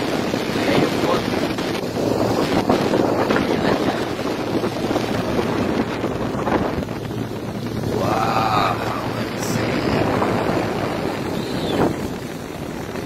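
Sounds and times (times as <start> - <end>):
motor boat engine: 0.0 - 13.0
water rushing past: 0.0 - 13.0
wind buffeting microphone: 0.0 - 13.0.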